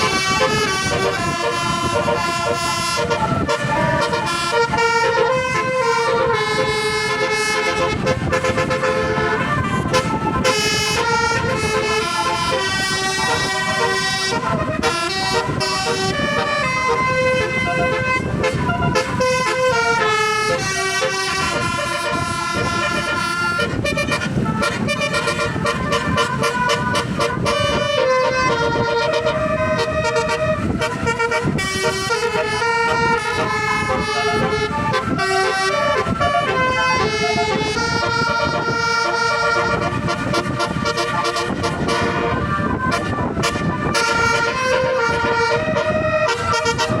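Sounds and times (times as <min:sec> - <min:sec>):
musical bus horns playing melody: 0:00.0 - 0:47.0.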